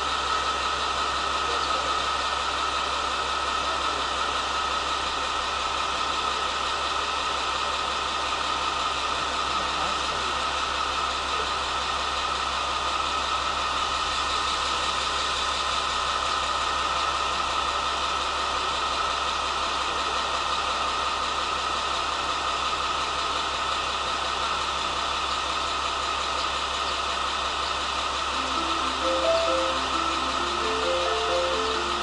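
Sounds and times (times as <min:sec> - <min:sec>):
diesel railcar engine idling: 0:00.0 - 0:32.0.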